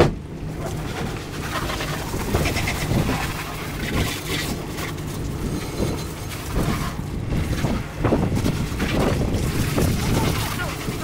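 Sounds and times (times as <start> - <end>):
wind buffeting microphone: 0.0 - 11.0
hose spraying water on deck: 0.4 - 11.0.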